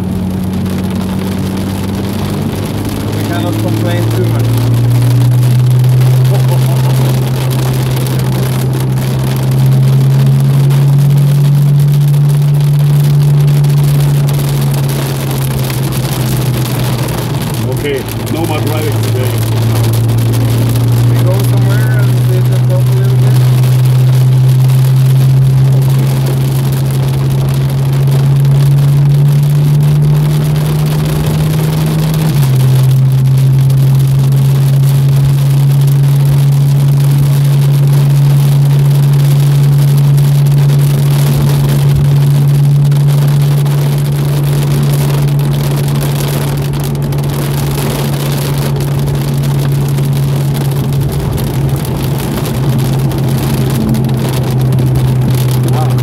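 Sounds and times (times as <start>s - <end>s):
car engine cruising: 0.0s - 56.0s
heavy rain and tyre spray: 0.0s - 56.0s.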